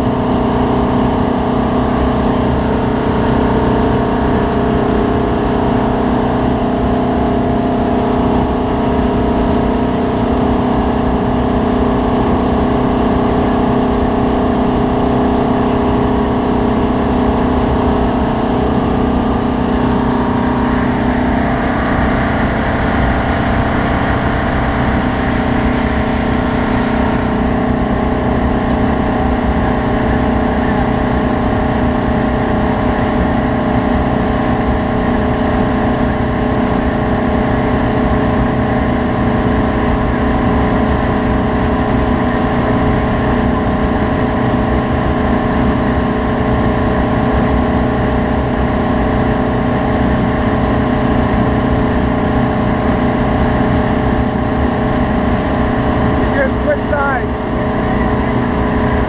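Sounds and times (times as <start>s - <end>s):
boat engine running: 0.0s - 59.0s
water churning: 0.0s - 59.0s.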